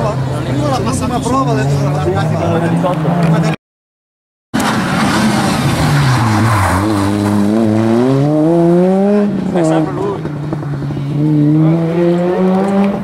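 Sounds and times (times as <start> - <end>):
rally car engine: 0.0 - 3.6, 4.6 - 13.0.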